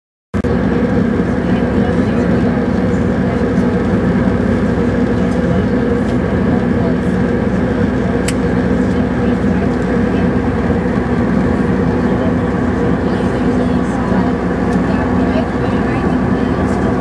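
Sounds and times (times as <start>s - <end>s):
jet engine drone in cabin: 0.4s - 17.0s
rushing airflow: 0.4s - 17.0s.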